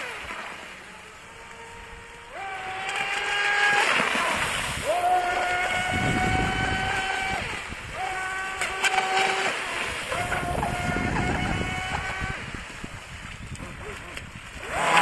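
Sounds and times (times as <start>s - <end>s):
boat motor high-pitched whine: 0.0s - 13.8s, 14.6s - 15.0s
wind and water rushing: 0.0s - 15.0s.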